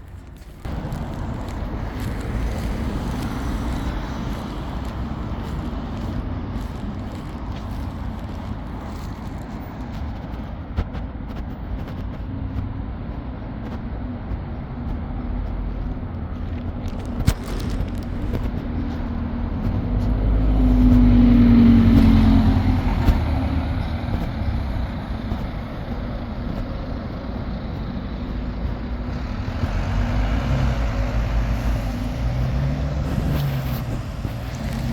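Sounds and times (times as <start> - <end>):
road traffic passing: 0.0 - 34.9.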